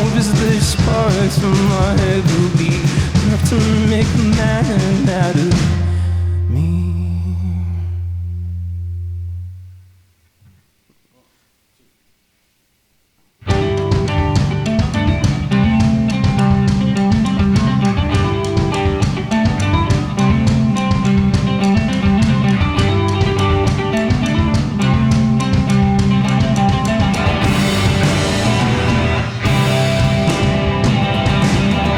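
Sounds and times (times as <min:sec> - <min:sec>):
drum kit beat: 0:00.0 - 0:07.3, 0:13.4 - 0:31.9
electric guitar: 0:00.0 - 0:09.8, 0:13.4 - 0:31.9.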